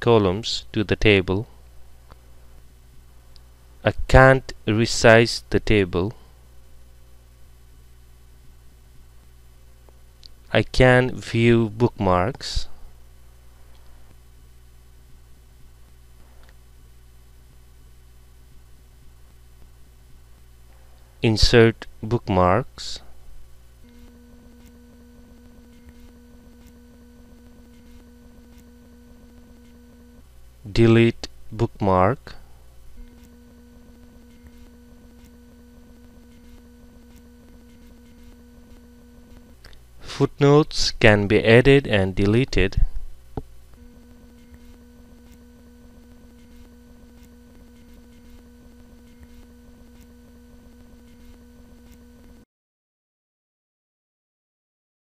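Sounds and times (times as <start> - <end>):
electrical hum: 0.0 - 52.5.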